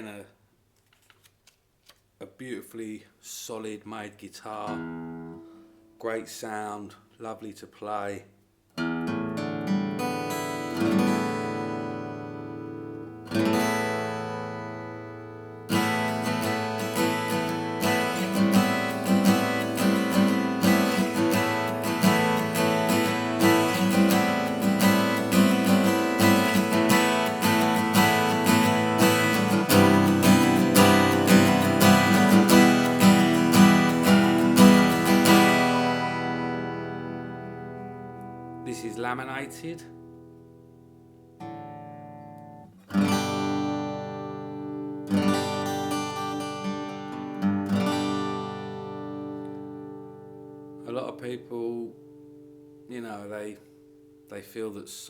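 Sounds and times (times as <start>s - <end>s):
acoustic guitar strumming: 4.5s - 6.8s, 8.8s - 54.3s.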